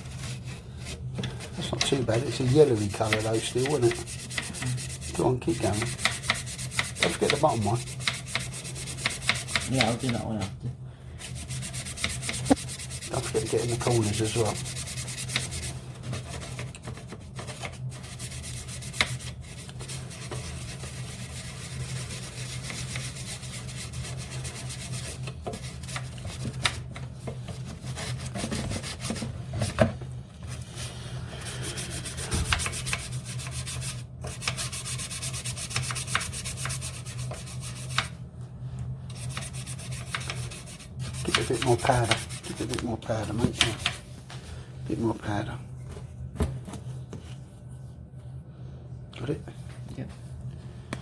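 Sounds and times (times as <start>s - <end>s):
brush scrubbing plastic: 0.0s - 10.5s, 11.2s - 29.8s, 30.5s - 38.1s, 39.1s - 44.1s
steady low hum: 0.0s - 51.0s.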